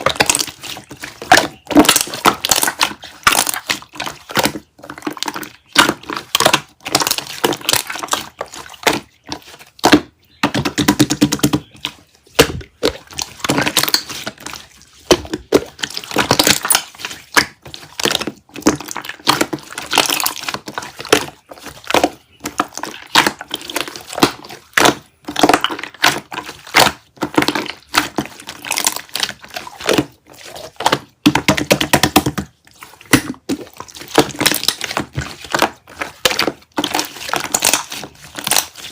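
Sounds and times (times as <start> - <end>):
slime crackling and popping: 0.0 - 11.3, 12.3 - 38.9.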